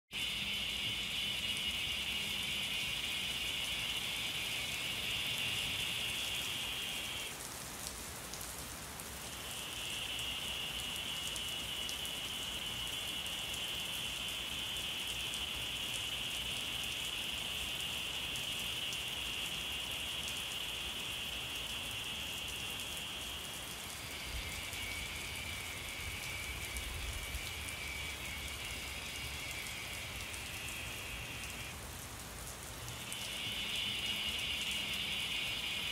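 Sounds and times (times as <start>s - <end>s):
high-pitched insect drone: 0.1s - 7.5s, 9.0s - 35.9s.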